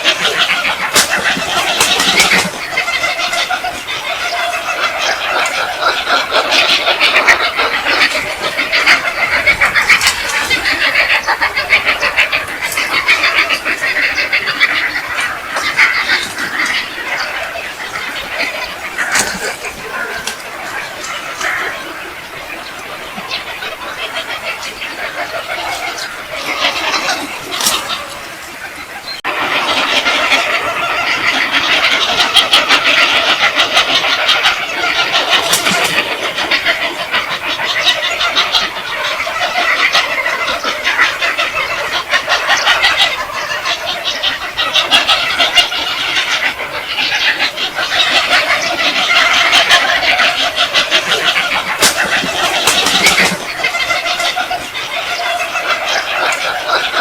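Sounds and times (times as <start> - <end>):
flock of birds chattering: 0.0 - 57.0.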